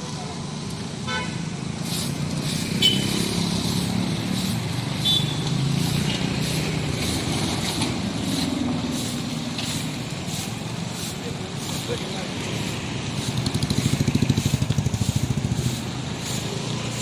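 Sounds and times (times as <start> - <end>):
vehicle engines running: 0.0 - 17.0.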